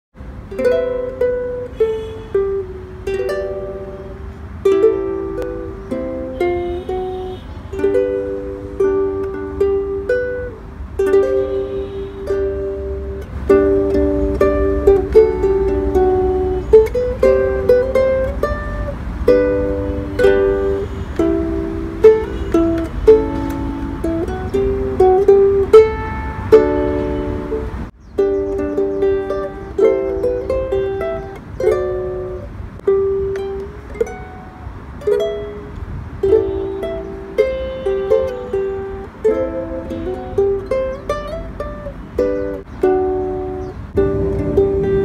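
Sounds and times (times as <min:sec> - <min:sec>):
fingerpicked ukulele melody: 0:00.2 - 0:45.0.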